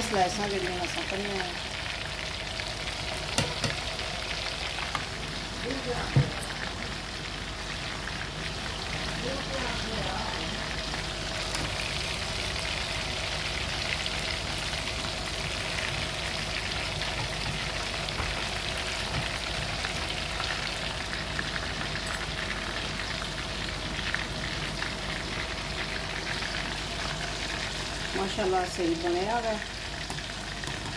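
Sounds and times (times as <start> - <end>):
chicken deep-frying in oil: 0.0 - 30.9.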